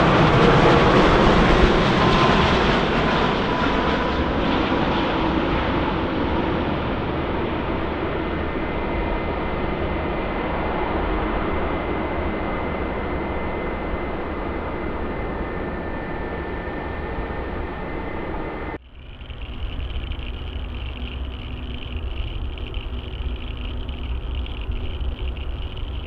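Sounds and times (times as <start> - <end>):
jet engine whine: 0.0 - 26.0
jet engines roaring: 0.0 - 26.0.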